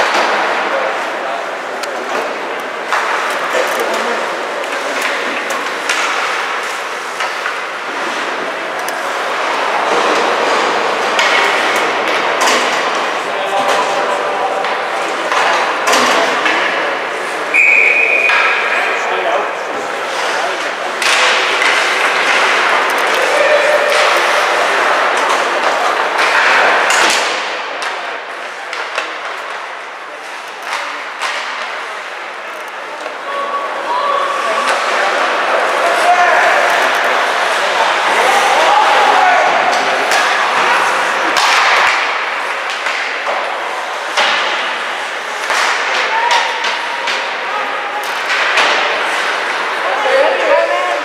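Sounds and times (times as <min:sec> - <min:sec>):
arena background noise: 0:00.0 - 0:51.0
hockey sticks clacking on puck: 0:00.0 - 0:51.0.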